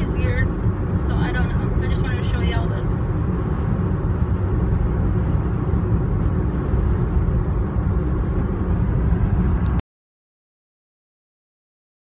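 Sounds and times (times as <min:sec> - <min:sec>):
car engine and road noise: 0:00.0 - 0:09.8.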